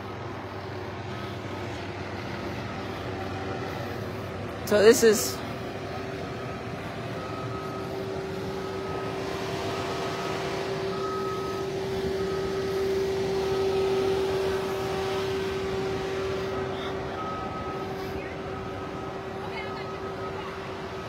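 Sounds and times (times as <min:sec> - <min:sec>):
emergency vehicles idling: 0:00.0 - 0:21.0.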